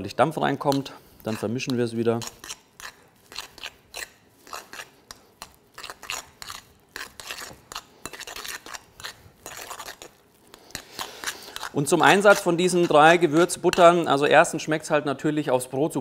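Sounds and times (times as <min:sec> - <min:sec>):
metal spoon scraping ceramic bowl: 0:00.6 - 0:14.1.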